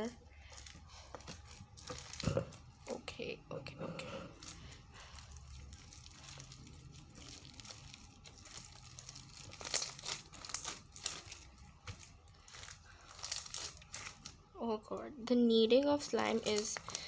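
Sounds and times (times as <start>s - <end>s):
slime crinkling and crackling: 0.0s - 14.6s, 15.5s - 17.0s.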